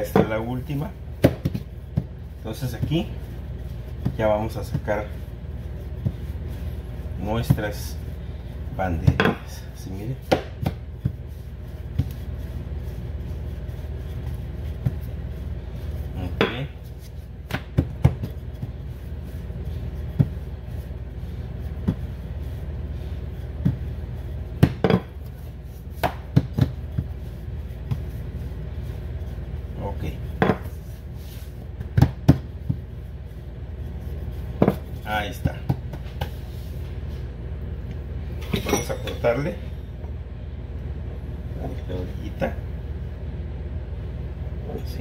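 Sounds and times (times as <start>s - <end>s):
rolling pin rumbling on dough: 0.0s - 36.6s.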